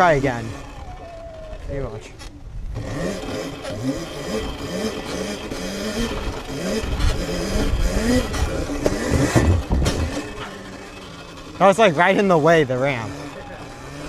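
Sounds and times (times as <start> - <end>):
electric motor whine: 0.0 - 14.0
tyres and wind rumble: 0.0 - 14.0.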